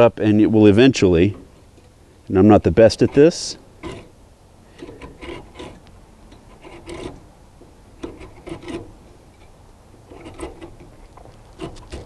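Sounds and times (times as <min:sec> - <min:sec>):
comb rasping through metal fins: 0:01.0 - 0:07.4, 0:08.0 - 0:12.0.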